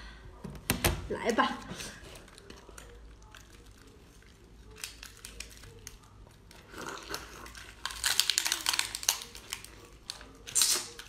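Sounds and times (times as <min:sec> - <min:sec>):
crackly chewing and crunching: 0:02.0 - 0:11.0.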